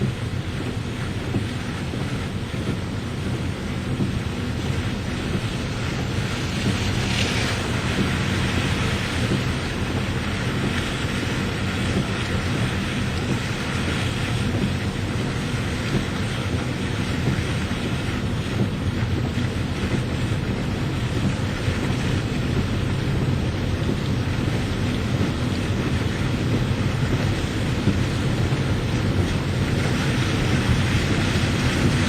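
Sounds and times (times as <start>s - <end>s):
steady rain: 0.0s - 32.0s
wind rumbling on microphone: 0.0s - 32.0s.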